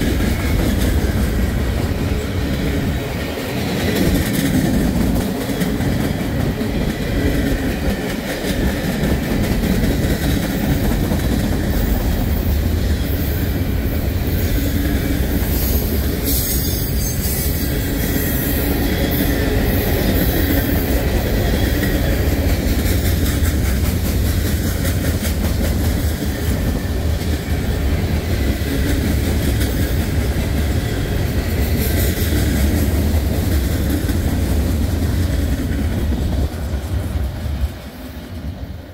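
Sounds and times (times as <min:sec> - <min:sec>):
freight train rumbling on rails: 0:00.0 - 0:38.9
train cars clickety-clack: 0:00.0 - 0:38.9.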